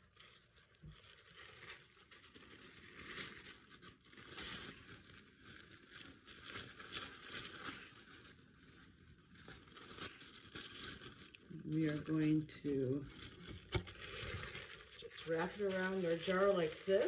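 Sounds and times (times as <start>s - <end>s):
tissue paper crinkling: 0.0s - 17.0s.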